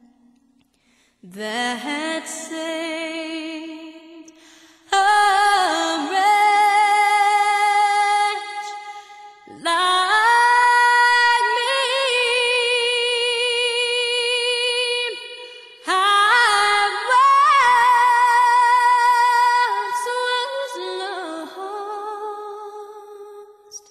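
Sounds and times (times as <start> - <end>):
woman singing unaccompanied: 1.2 - 8.9, 9.5 - 23.9.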